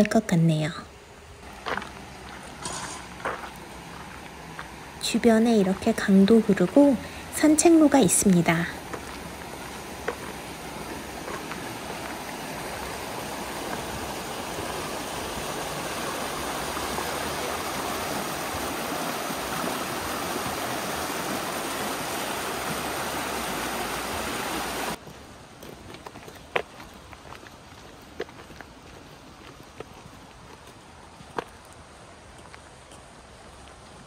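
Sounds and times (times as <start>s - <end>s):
creek rushing over rocks: 1.4s - 34.0s.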